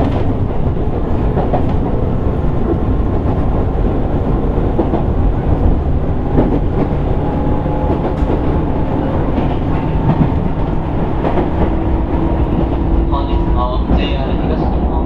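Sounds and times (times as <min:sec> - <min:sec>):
rail joint knocks: 0:00.0 - 0:13.0
train wheels rumbling on rail: 0:00.0 - 0:15.0.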